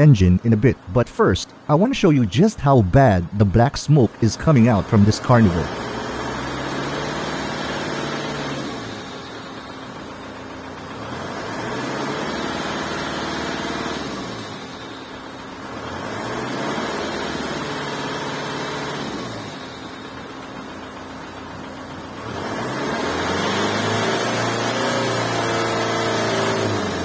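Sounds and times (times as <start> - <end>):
diesel engine revving: 0.0 - 27.0.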